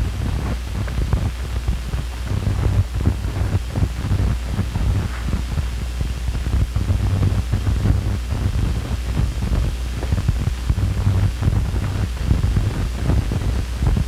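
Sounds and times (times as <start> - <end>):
faint crackles: 0.0 - 14.0
film soundtrack hum and hiss: 0.0 - 14.0.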